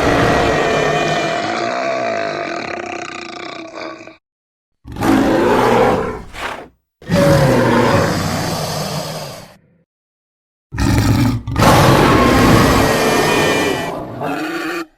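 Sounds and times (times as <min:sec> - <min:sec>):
creature roaring: 0:00.0 - 0:04.2, 0:04.9 - 0:09.6, 0:10.8 - 0:14.9
growling roar: 0:00.0 - 0:04.2, 0:04.9 - 0:09.7, 0:10.8 - 0:14.9.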